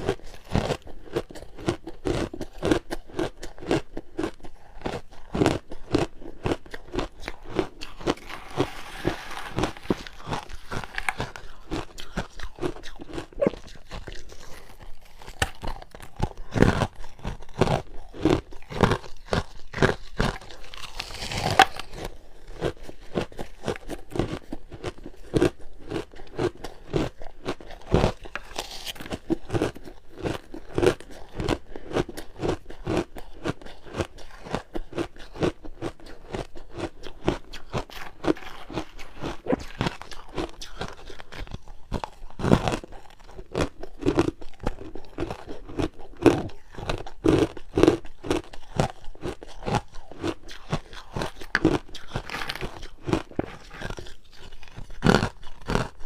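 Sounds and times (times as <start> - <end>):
ice being bitten and chewed: 0.0 - 56.0.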